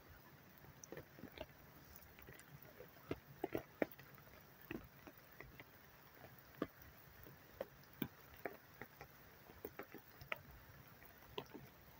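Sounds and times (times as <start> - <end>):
light hiss: 0.0 - 11.9
raindrops ticking and tapping: 0.0 - 11.9.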